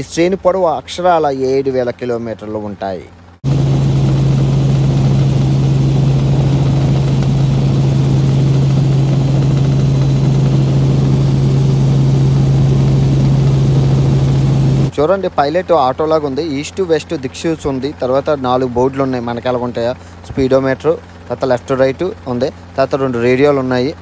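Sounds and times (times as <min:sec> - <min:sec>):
helicopter cabin drone: 0:00.1 - 0:24.0.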